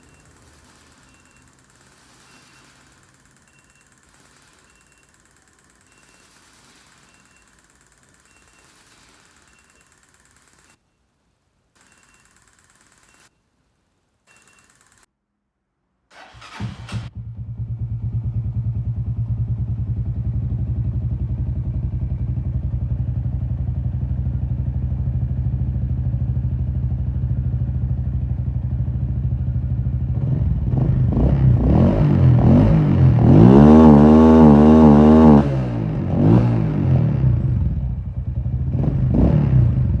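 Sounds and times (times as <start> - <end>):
motorcycle engine idling and revving: 0.0 - 10.8, 16.2 - 40.0.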